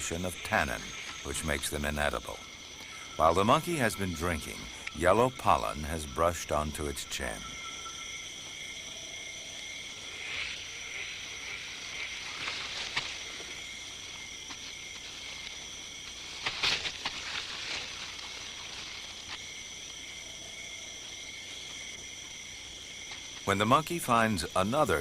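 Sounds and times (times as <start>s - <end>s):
foliage rustling: 0.0s - 25.0s
insect chorus buzzing: 0.0s - 25.0s.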